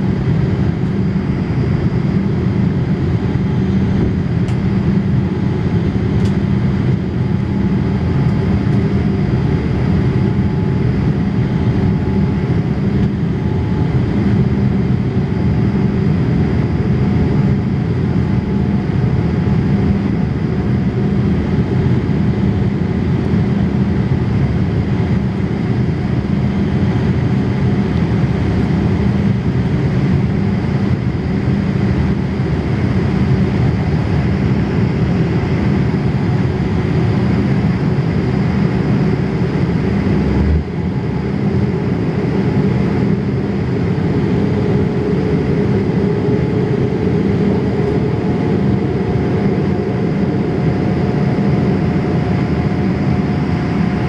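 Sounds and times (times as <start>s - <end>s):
low rumble of jet engines: 0.0s - 54.0s.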